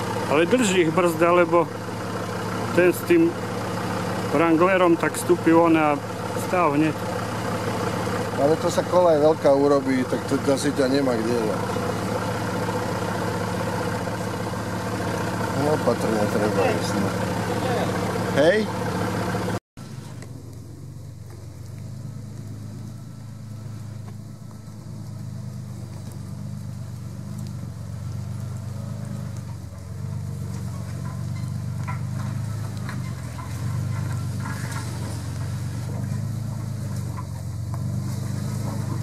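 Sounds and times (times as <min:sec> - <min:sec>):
vehicle engine at low revs: 0:00.0 - 0:39.0.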